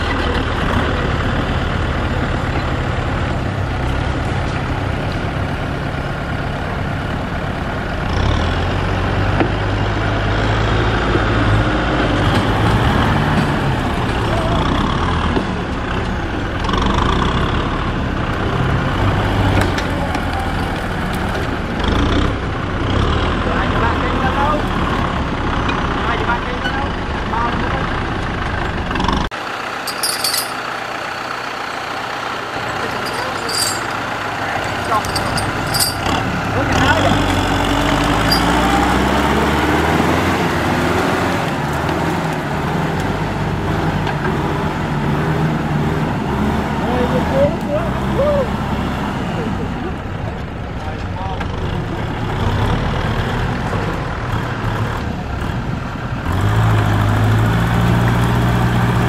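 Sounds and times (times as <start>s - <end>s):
tractor engines rumbling under load: 0.0s - 59.0s.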